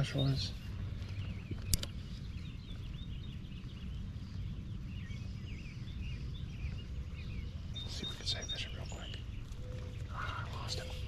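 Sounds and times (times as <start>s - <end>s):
birds chirping and singing: 0.0s - 11.0s
low outdoor rumble: 0.0s - 11.0s.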